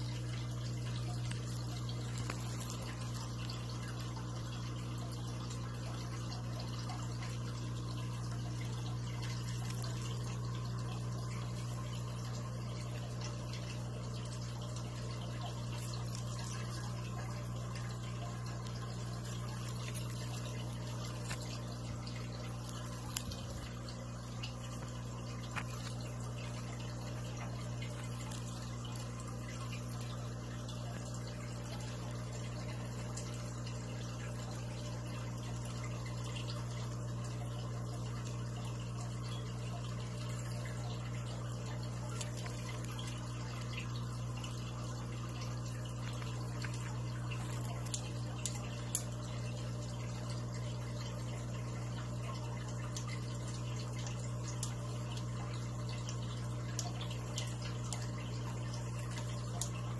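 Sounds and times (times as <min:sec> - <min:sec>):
aquarium pump humming: 0:00.0 - 0:59.9
faint water trickle: 0:00.0 - 0:59.9
small ticks or drips: 0:00.0 - 0:59.9.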